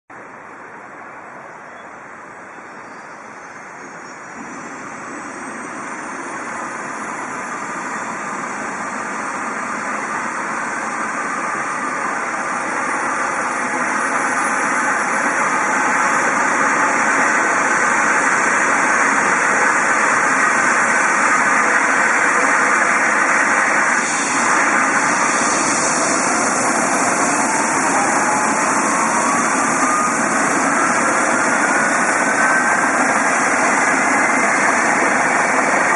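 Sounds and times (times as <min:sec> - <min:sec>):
second turbine whine: 0:03.2 - 0:35.9
helicopter turbine whine: 0:04.2 - 0:35.9.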